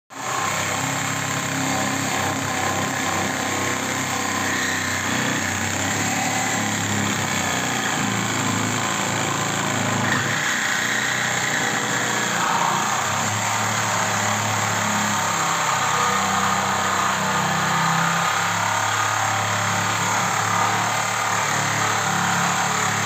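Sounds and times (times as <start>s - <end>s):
reciprocating saw cutting metal: 0.1s - 23.0s.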